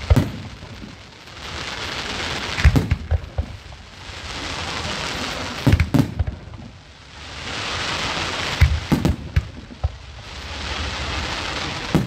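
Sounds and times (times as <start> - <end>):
fireworks bangs: 0.0 - 12.0
fireworks hissing: 0.0 - 12.0.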